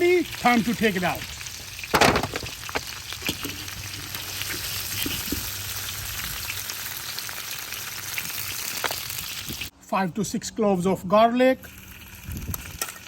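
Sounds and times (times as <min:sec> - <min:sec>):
chicken frying in hot oil: 0:00.0 - 0:09.7, 0:11.6 - 0:13.0
oil popping and crackling: 0:00.0 - 0:09.7, 0:11.6 - 0:13.0.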